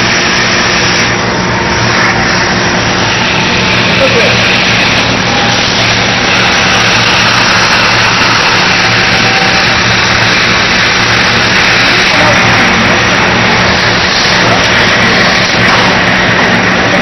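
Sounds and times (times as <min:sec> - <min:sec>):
welding equipment running: 0:00.0 - 0:17.0.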